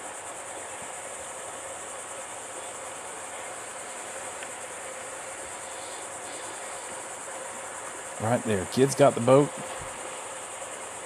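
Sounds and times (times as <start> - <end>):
faint low hum: 0.0 - 11.0
insect chorus buzzing: 0.0 - 11.0.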